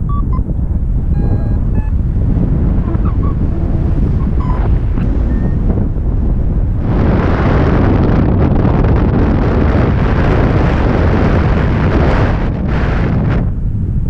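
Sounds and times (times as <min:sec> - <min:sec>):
deep rumble: 0:00.0 - 0:14.0.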